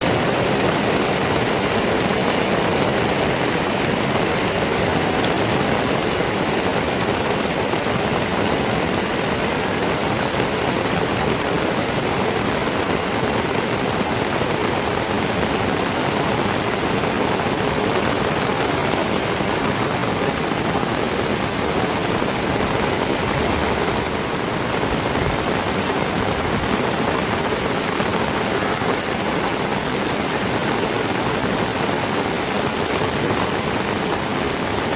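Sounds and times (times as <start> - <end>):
heavy rain hissing: 0.0 - 34.9.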